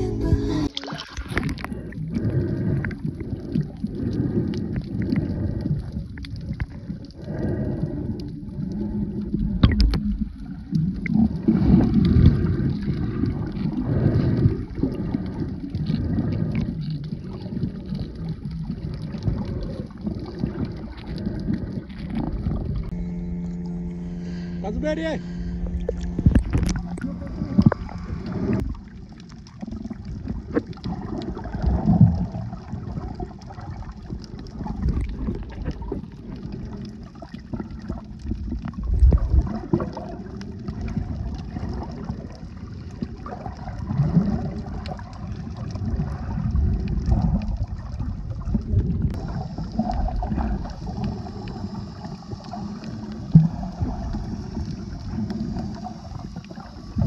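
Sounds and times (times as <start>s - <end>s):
muffled underwater water sloshing: 0.0s - 57.0s.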